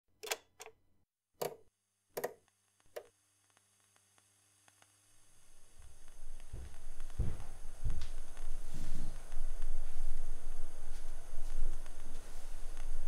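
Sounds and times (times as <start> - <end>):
faint scattered ticks: 2.2 - 13.0.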